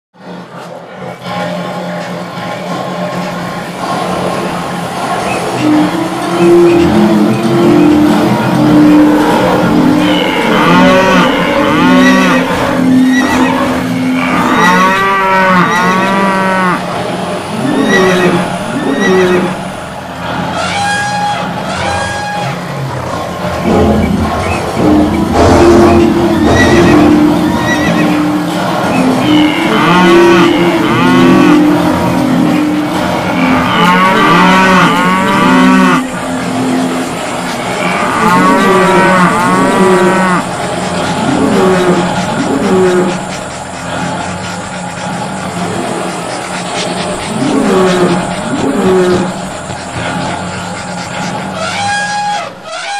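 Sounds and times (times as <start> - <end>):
noisy rumble: 0.2 - 52.9
cattle mooing: 5.0 - 52.9.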